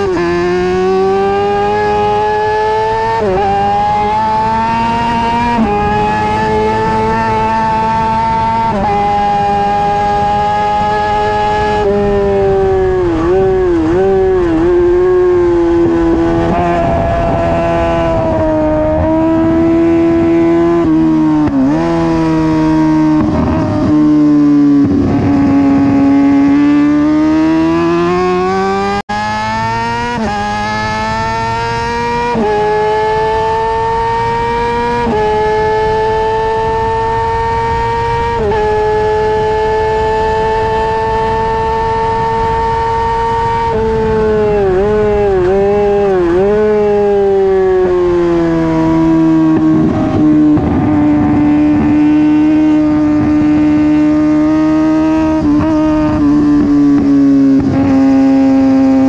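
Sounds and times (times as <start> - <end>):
motorcycle engine at high revs: 0.0 - 59.0
wind noise: 0.0 - 59.0.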